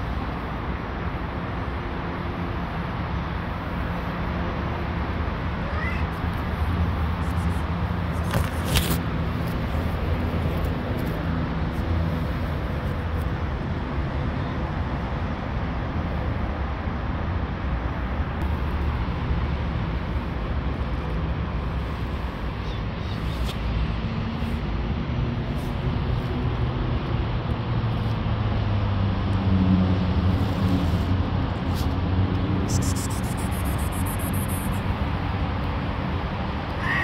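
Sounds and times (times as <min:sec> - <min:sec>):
low rumble of passing cars: 0:00.0 - 0:37.0.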